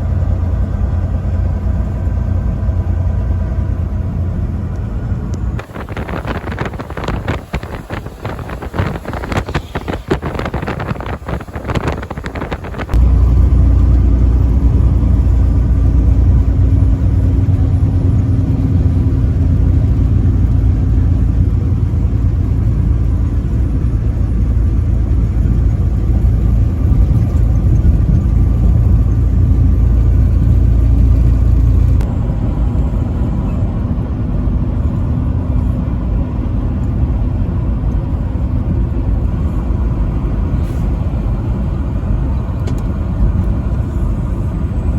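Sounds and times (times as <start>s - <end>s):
truck engine and road rumble: 0.0s - 44.9s
wind buffeting microphone: 0.8s - 44.9s.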